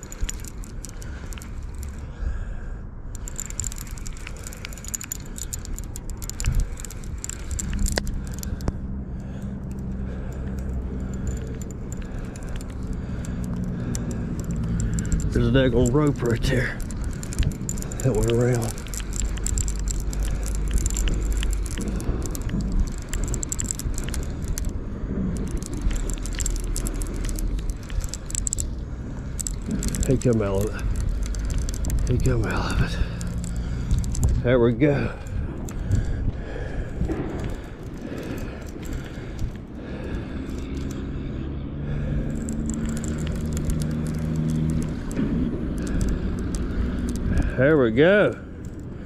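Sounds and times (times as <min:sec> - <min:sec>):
fishing reel clicking: 0:00.0 - 0:02.4, 0:03.0 - 0:49.0
low rumble: 0:00.0 - 0:47.6
low motor hum: 0:00.0 - 0:49.0.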